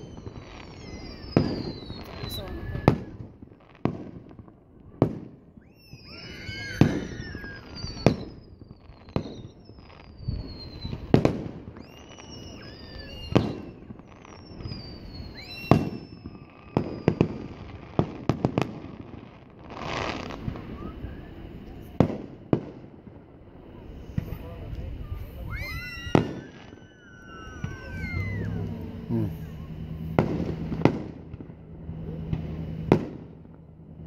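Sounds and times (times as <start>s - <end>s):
descending whistling tones: 0.0s - 3.3s, 5.5s - 18.0s, 19.8s - 22.0s, 23.4s - 34.0s
fireworks bursting with bangs: 0.0s - 34.0s.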